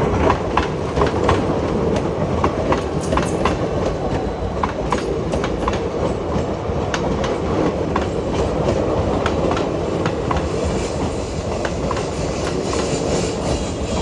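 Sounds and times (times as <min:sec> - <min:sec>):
train wheels rumbling on rails: 0:00.0 - 0:14.0
wheels clicking over rail joints: 0:00.2 - 0:13.2.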